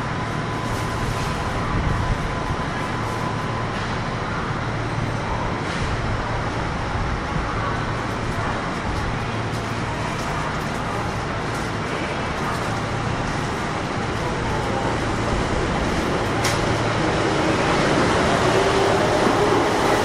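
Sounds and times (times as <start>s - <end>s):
train rail rumble: 0.0s - 20.0s.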